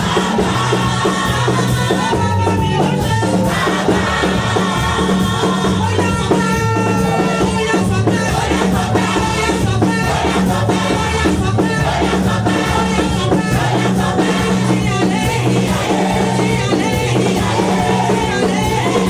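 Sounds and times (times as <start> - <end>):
band accompaniment: 0.0 - 19.0
bass line: 0.0 - 19.0
choir singing gospel: 0.0 - 19.0.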